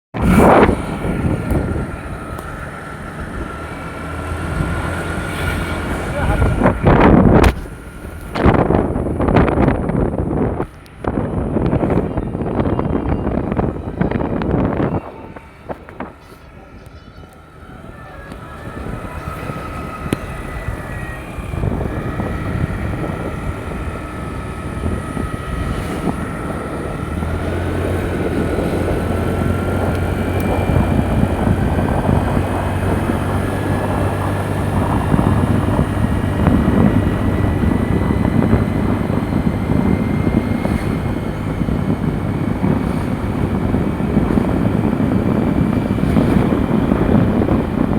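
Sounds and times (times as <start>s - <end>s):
low hum: 0.1s - 47.9s
scooter engine running: 0.1s - 47.9s
wavering whine: 0.2s - 47.9s.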